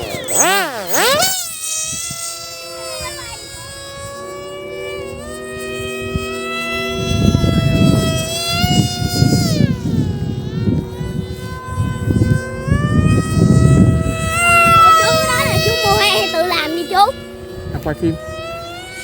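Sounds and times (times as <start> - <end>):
high-pitched motor whine: 0.0 - 19.0.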